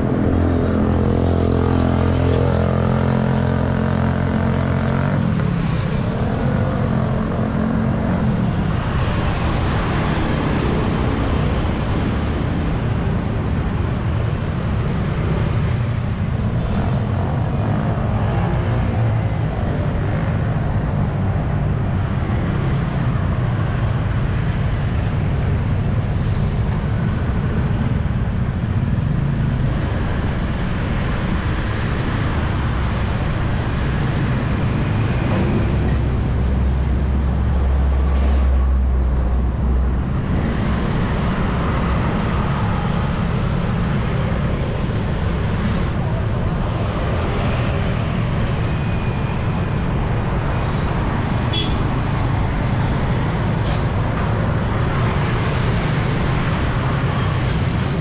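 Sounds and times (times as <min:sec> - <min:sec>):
motorbike and car engines: 0:00.0 - 0:58.0.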